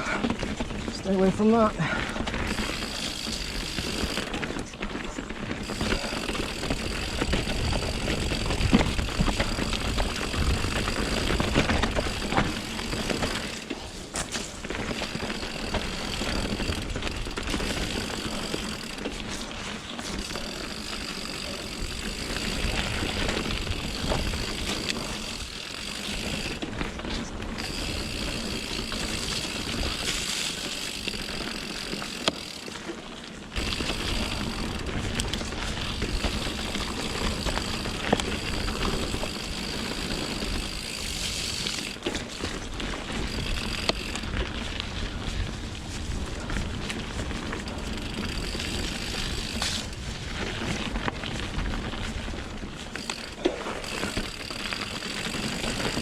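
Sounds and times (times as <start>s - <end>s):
bike knocks and rattles: 0.0s - 56.0s
bike tyre and trail noise: 0.0s - 56.0s.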